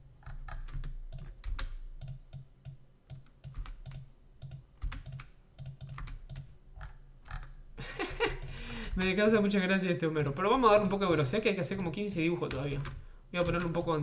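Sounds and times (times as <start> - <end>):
low steady hum: 0.0 - 14.0
keyboard keys clicking: 0.2 - 7.6, 8.2 - 9.5, 10.2 - 14.0.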